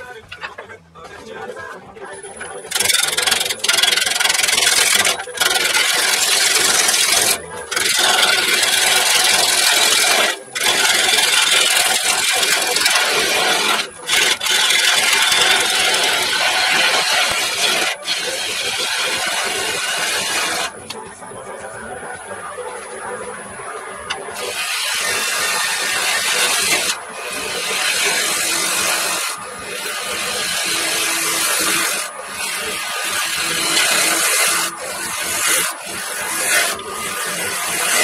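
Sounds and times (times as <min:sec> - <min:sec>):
gouge scraping spinning wood: 0:00.0 - 0:21.1, 0:23.9 - 0:38.0.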